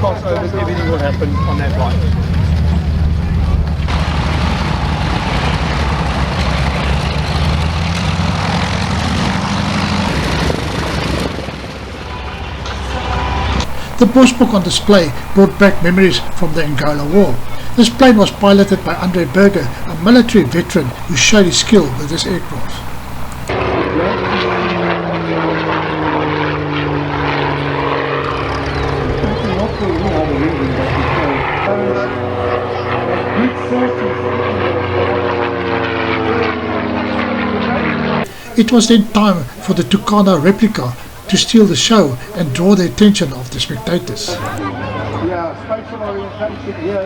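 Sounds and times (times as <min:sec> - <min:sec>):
propeller aircraft engine drone: 0:00.0 - 0:12.9, 0:13.6 - 0:44.6.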